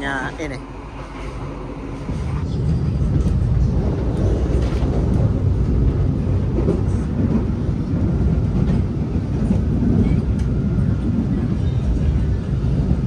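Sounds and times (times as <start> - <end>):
train carriage rumbling: 0.0 - 13.0.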